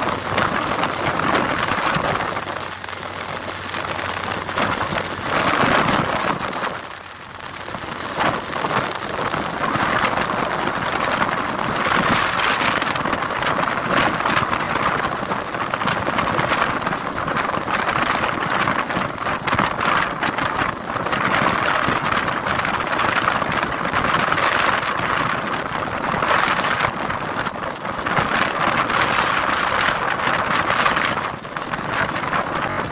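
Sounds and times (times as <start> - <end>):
train wheels rushing on rails: 0.0 - 32.9
wind buffeting microphone: 0.0 - 32.9.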